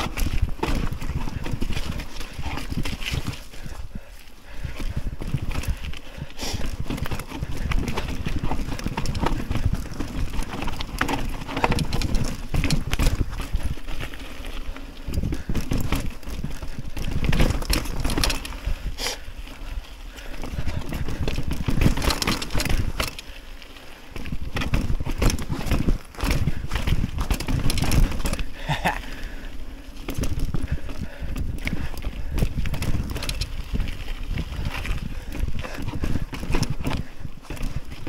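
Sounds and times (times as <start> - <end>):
wind rumble on microphone: 0.0 - 23.4, 24.0 - 38.0
bike rattling over rocks: 0.0 - 38.0.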